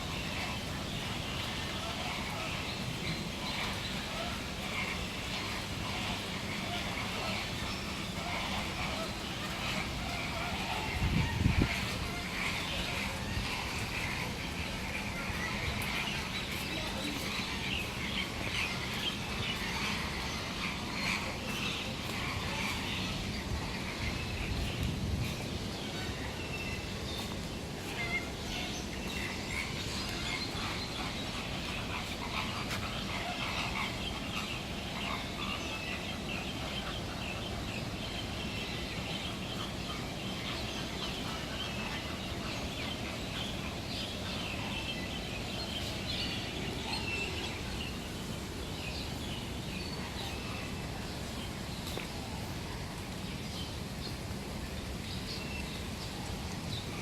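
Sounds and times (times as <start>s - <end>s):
many birds chattering: 0.0s - 57.0s.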